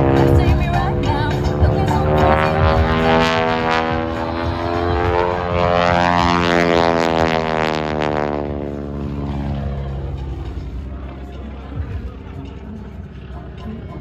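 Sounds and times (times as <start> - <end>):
biplane engine drone passing: 0.0 - 14.0.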